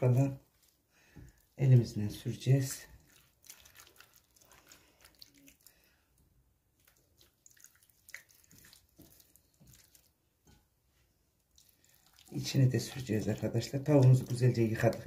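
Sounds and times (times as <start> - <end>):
hands squishing raw chicken: 0.0 - 10.4, 11.4 - 15.0.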